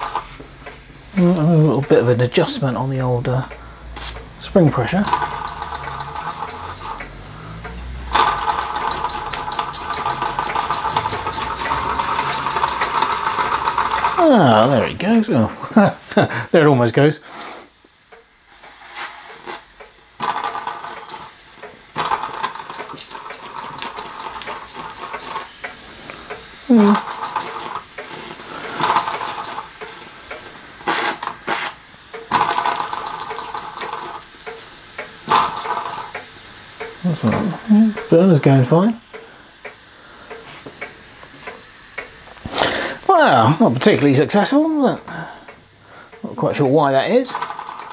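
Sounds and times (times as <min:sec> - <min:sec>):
toy steam engine hissing: 0:00.0 - 0:47.9.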